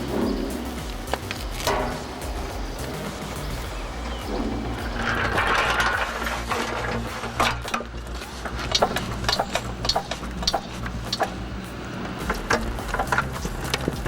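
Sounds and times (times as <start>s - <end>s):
machinery humming: 0.0s - 14.0s
sharp knocks and clacks: 0.0s - 14.0s.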